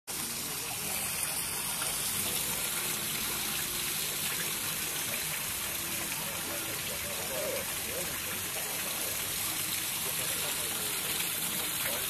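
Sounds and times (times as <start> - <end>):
water pouring into pond: 0.1 - 12.0.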